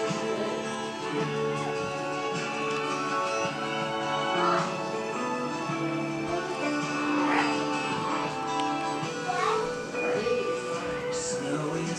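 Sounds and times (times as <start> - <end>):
gentle instrumental music: 0.0 - 11.9.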